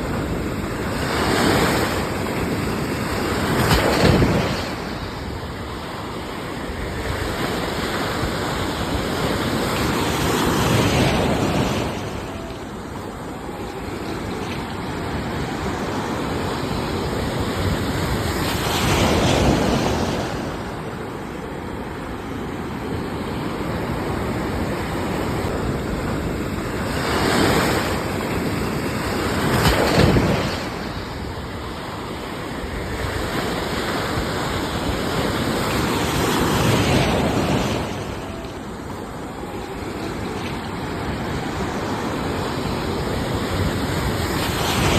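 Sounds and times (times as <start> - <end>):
sea waves breaking: 0.0 - 44.9.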